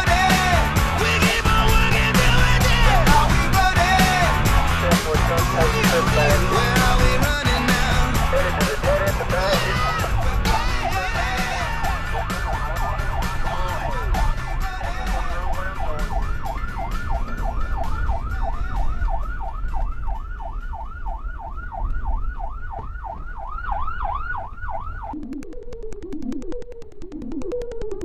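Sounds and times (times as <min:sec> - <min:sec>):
engine and road rumble: 0:00.0 - 0:25.2
police siren wailing and yelping: 0:00.0 - 0:28.0.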